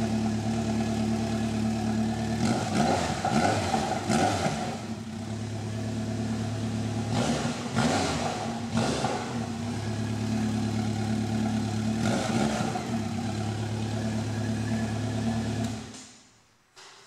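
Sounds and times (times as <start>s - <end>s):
motorcycle engine idling: 0.0s - 3.2s, 3.8s - 7.1s, 8.5s - 15.9s.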